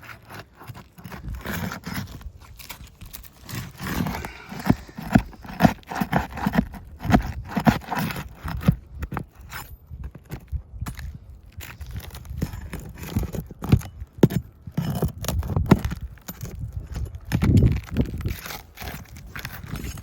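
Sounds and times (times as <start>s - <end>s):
knocks and scraping on shingle roof: 0.0s - 20.0s.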